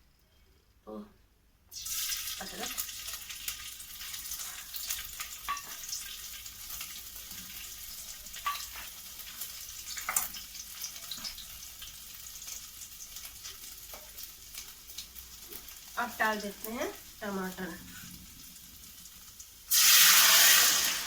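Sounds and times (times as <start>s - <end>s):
ginger sizzling in hot ghee: 1.7s - 21.0s.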